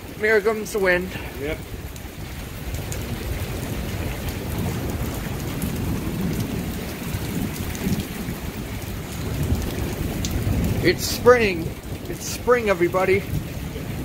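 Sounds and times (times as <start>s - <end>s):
heavy rain hissing: 0.0s - 14.0s
wind rumbling on microphone: 1.1s - 14.0s.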